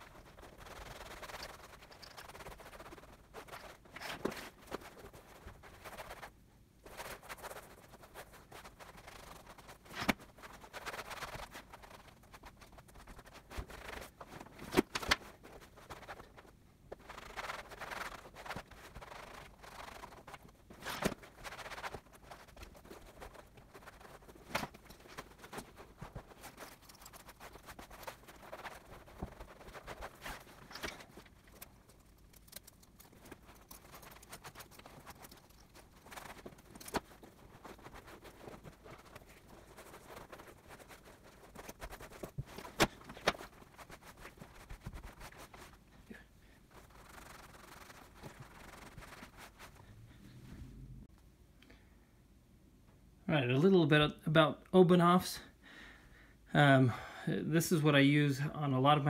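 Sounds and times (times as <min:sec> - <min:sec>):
cloth rubbing on leather: 0:00.0 - 0:50.8.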